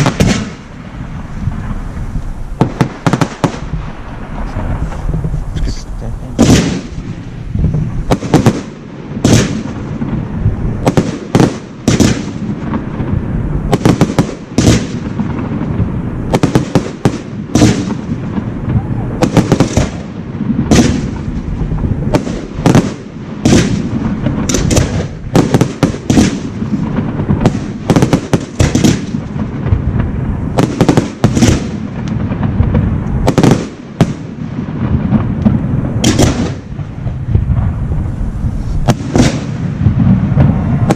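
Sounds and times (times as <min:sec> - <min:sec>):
continuous low rumble: 0:00.0 - 0:08.2, 0:09.0 - 0:40.9
firework bangs and bursts: 0:00.0 - 0:40.9.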